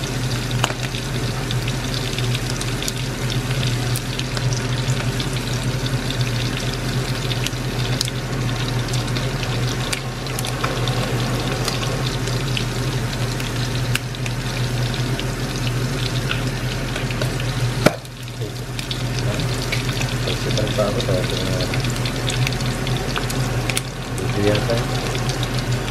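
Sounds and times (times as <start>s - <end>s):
food deep-frying in oil: 0.0s - 25.9s
low hum: 0.0s - 25.9s.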